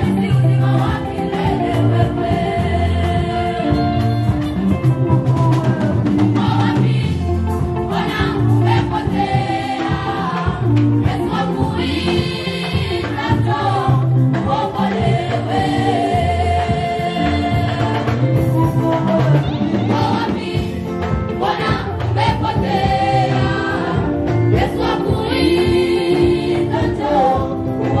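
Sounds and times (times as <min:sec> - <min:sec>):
choir singing in harmony: 0:00.0 - 0:28.0.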